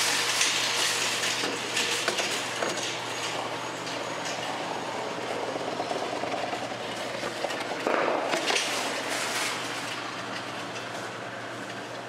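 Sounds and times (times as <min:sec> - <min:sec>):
vending machine hum: 0:00.0 - 0:12.0.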